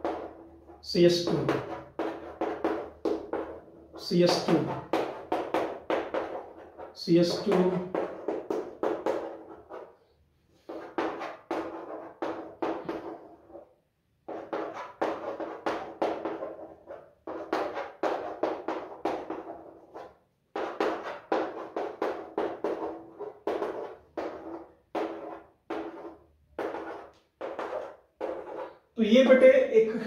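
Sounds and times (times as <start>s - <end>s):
chalk on a blackboard: 0.0s - 29.0s.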